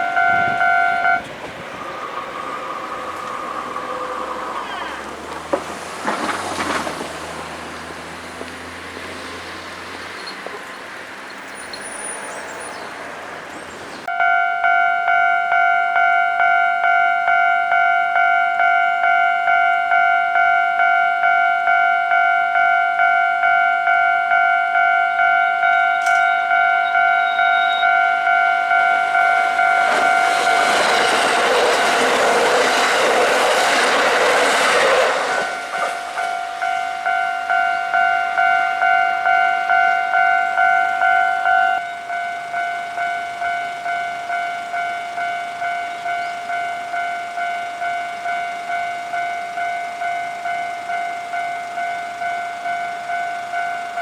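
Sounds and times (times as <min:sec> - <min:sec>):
train running noise: 0:00.0 - 0:14.1, 0:14.7 - 0:54.0
level-crossing warning bell: 0:00.0 - 0:54.0
train rumbling past: 0:00.0 - 0:54.0.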